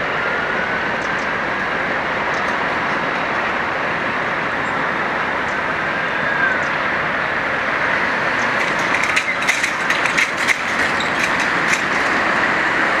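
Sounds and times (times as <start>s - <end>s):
distant diesel locomotive engine: 0.0s - 13.0s.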